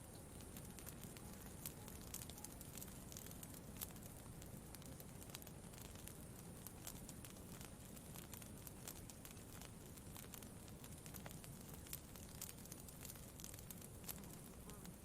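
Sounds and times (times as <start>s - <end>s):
campfire crackling: 0.0s - 15.0s
low fire rumble: 0.0s - 15.0s.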